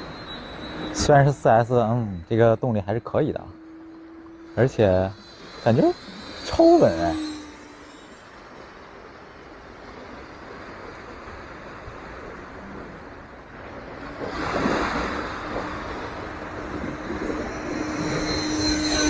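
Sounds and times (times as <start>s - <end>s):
model jet ducted fan whine: 0.0s - 19.0s
surf: 0.0s - 19.0s
wind: 0.0s - 19.0s.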